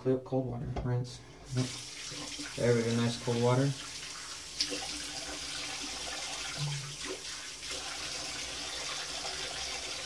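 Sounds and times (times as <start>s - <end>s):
tap water running into sink: 1.5s - 10.0s.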